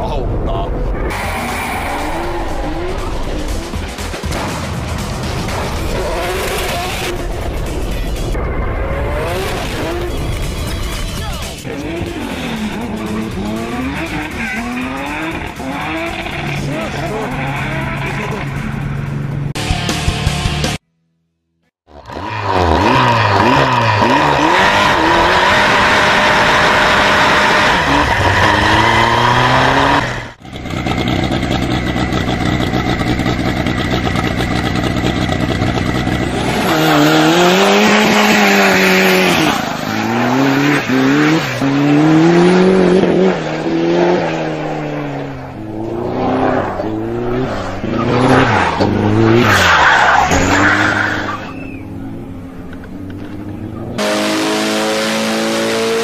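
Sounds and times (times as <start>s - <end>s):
go-kart engine revving: 8.8s - 19.5s, 21.9s - 56.0s.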